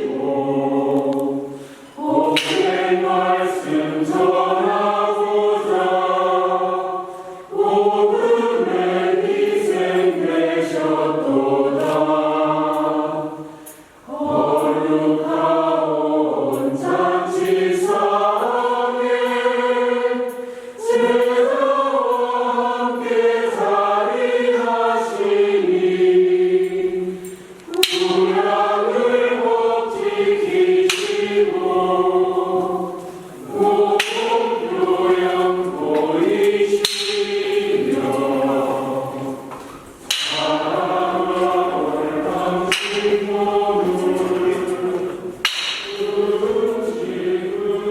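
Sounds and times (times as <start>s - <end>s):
choir singing a hymn: 0.0s - 47.9s.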